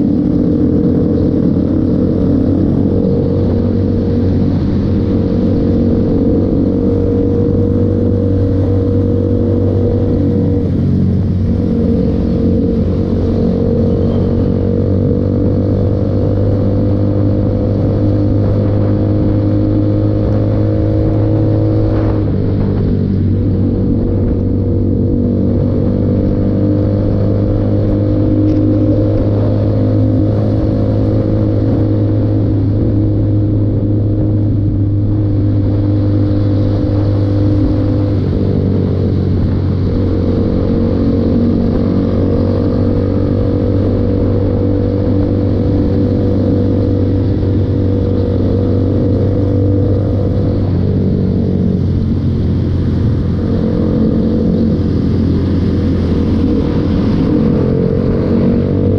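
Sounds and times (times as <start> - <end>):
motorcycle engine running: 0.0 - 58.9
wind noise: 0.0 - 58.9.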